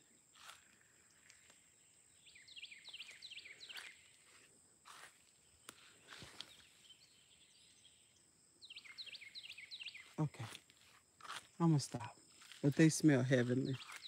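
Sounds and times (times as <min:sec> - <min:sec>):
small bird singing: 0:01.1 - 0:10.9, 0:11.6 - 0:14.0.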